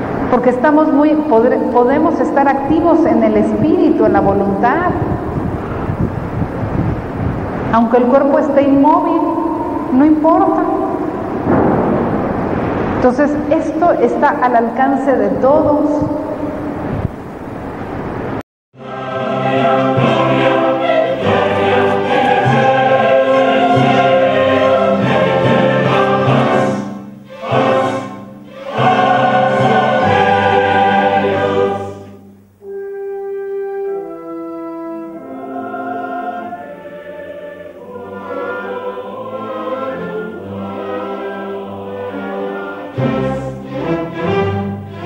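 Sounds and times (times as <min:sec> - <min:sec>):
choir singing sustained chords: 0:00.0 - 0:45.0.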